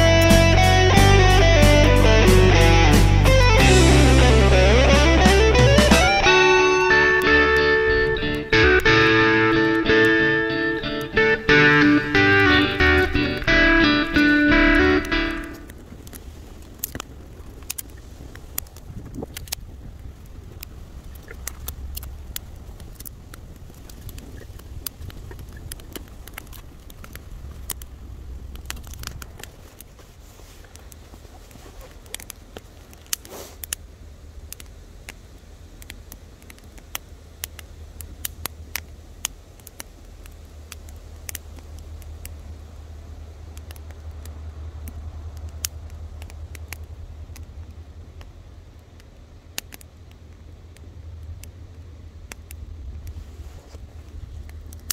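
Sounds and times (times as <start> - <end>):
low steady rumble: 0.0 - 33.1, 33.8 - 54.9
campfire crackling and popping: 0.0 - 54.9.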